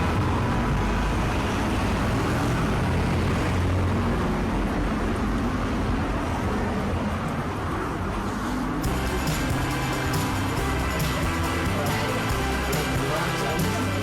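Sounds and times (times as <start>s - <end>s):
traffic: 0.0s - 14.0s.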